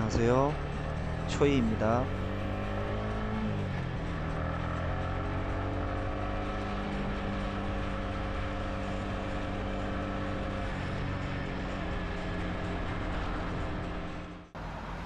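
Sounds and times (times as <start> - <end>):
motorbike engine cruising: 0.0 - 15.0
road and wind noise: 0.0 - 15.0.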